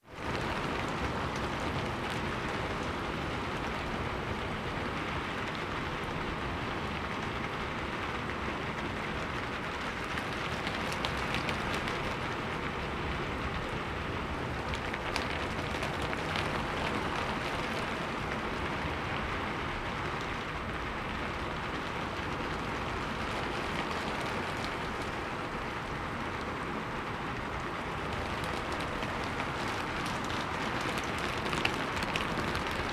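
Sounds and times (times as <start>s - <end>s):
rain hiss: 0.1s - 32.9s.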